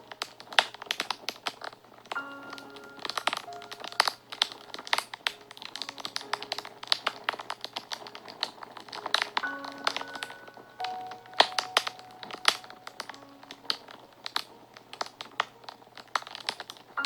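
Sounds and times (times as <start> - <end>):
soft background music: 0.0 - 17.0
wood fire crackling and popping: 0.0 - 17.0.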